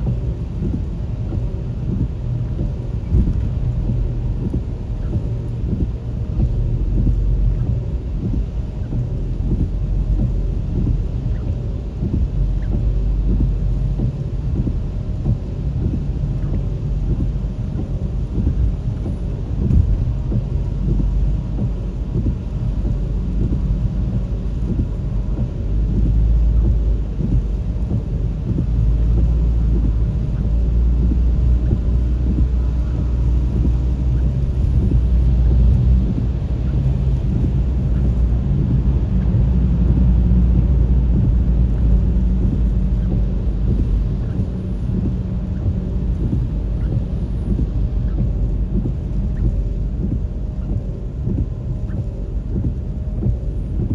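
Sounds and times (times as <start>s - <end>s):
vehicle road and engine rumble: 0.0s - 53.9s.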